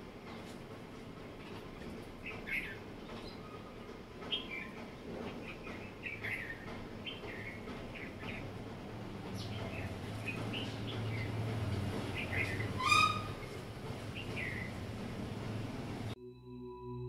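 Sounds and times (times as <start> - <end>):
small birds chirping: 0.1 - 16.2.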